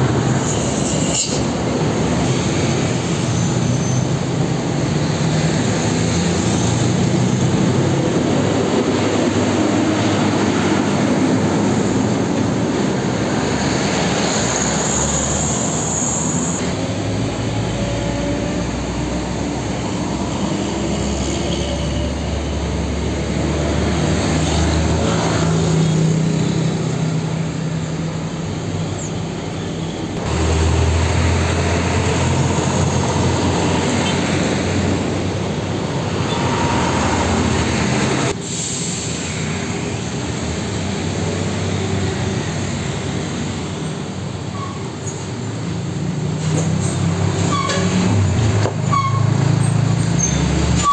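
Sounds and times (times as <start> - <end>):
tyre and road noise: 0.0 - 50.9
diesel truck engine drone: 1.4 - 50.9.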